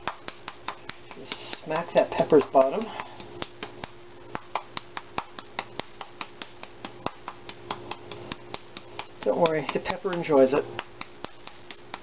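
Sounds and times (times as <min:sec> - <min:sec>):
hand slapping pepper shaker: 0:00.0 - 0:12.0.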